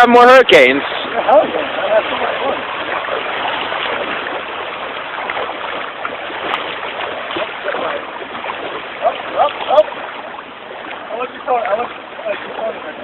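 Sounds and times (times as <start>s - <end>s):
surf washing on shore: 0.0s - 13.0s.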